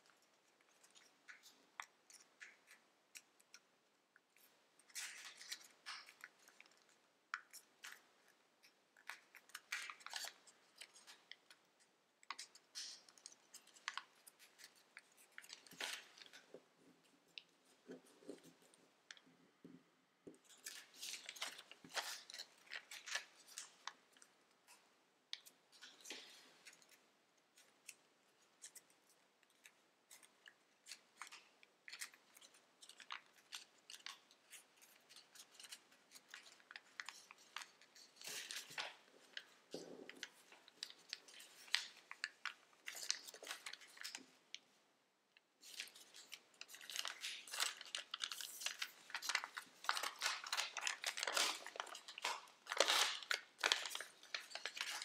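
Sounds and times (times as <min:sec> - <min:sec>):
paper crinkling while folded: 0:00.0 - 0:19.4, 0:20.4 - 0:44.8, 0:45.6 - 0:55.0.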